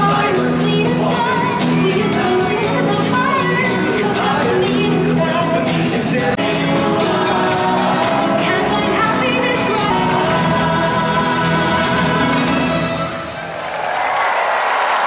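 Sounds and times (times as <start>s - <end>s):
show music with singing: 0.0s - 13.5s.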